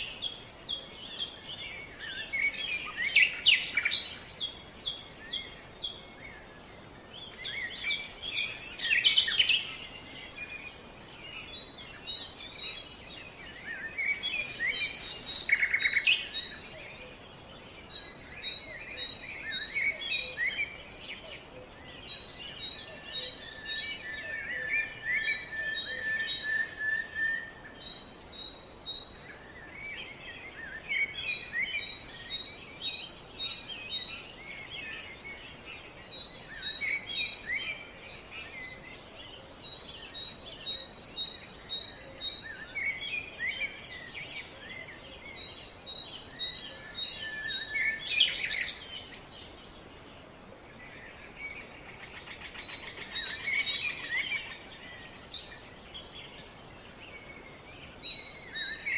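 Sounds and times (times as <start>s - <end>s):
birds chirping and singing: 0.0s - 58.9s.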